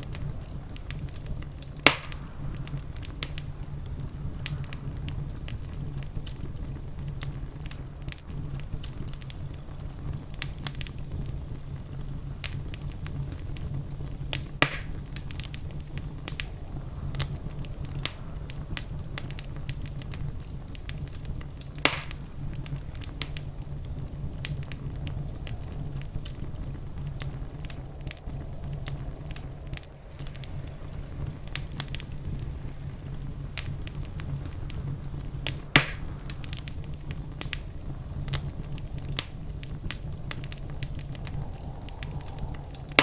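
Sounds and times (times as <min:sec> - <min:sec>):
loud fire pops: 0:00.0 - 0:43.0
low fire rumble: 0:00.0 - 0:43.0
wood fire crackling: 0:00.0 - 0:43.0.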